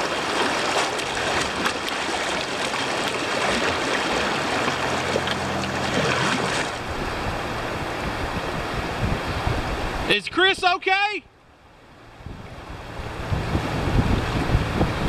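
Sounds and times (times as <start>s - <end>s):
river rapid rushing water: 0.0s - 15.0s.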